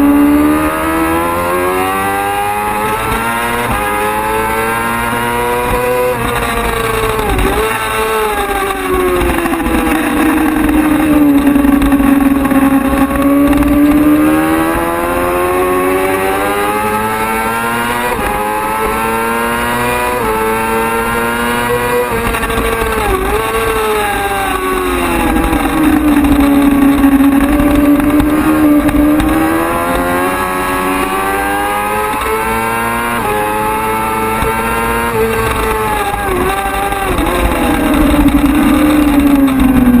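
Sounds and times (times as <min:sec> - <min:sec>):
racing motorcycle engine revving: 0:00.0 - 0:40.0.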